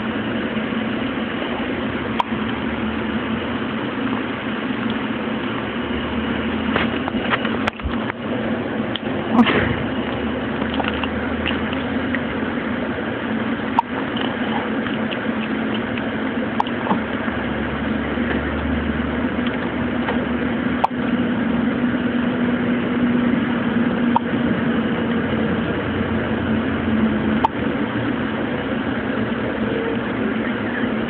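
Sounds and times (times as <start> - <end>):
steady droning hum: 0.0 - 31.0.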